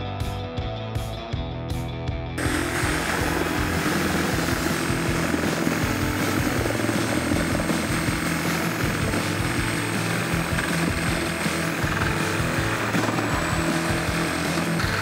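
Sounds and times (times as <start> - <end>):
power saw cutting plastic: 2.4 - 15.0.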